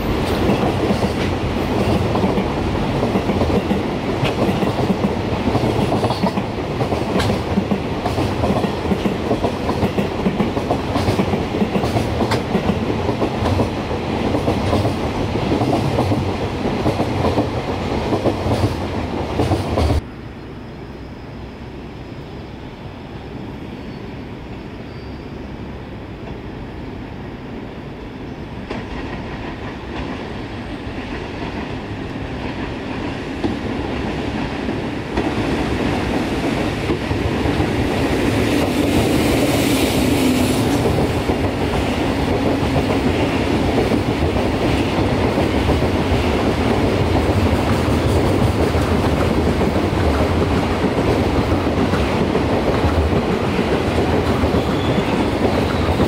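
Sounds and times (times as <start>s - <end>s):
electric locomotive approaching: 0.0s - 56.0s
freight train rolling past: 0.0s - 56.0s.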